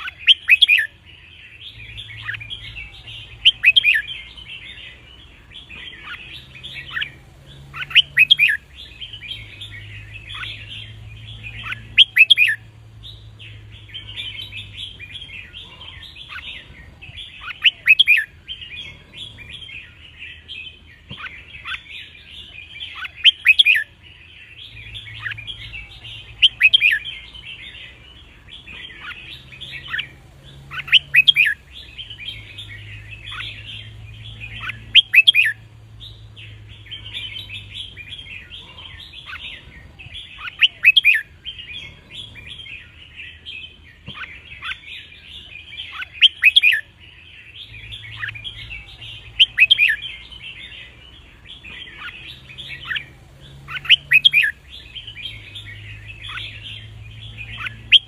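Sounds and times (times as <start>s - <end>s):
busy chatter of bird calls: 0.0s - 58.0s.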